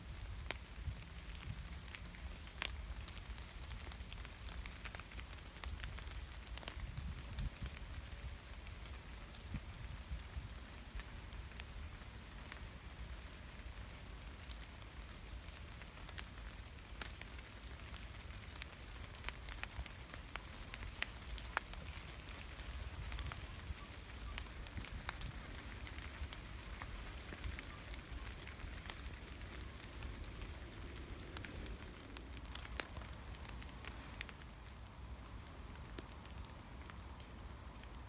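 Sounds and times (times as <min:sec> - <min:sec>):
gentle rain patter: 0:00.0 - 0:38.0
sharp close raindrops: 0:00.0 - 0:38.0.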